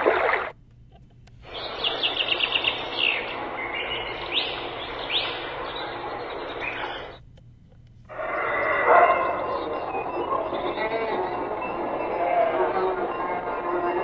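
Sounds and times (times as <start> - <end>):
recorded birds chirping: 1.4 - 7.2, 8.1 - 14.0.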